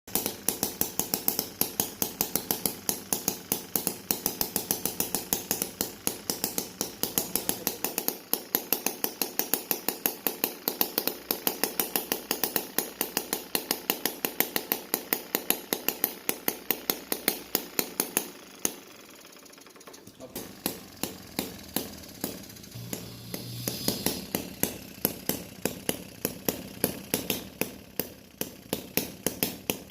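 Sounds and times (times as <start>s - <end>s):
small engine knocking: 0.1s - 29.9s.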